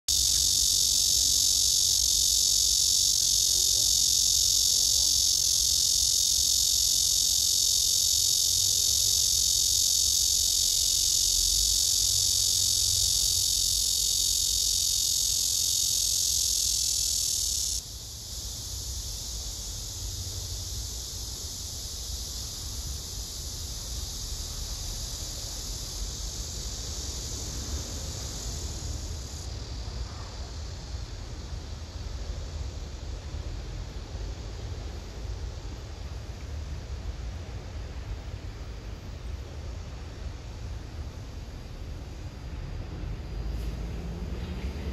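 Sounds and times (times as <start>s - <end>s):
cicadas buzzing: 0.0s - 44.9s
quieter steady buzz: 0.1s - 44.9s.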